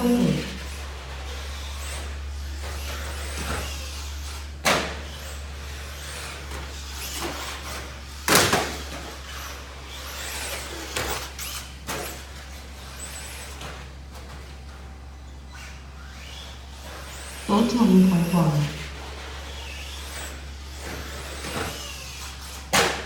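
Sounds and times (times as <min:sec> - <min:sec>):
electric rc truck motor: 0:00.0 - 0:23.0.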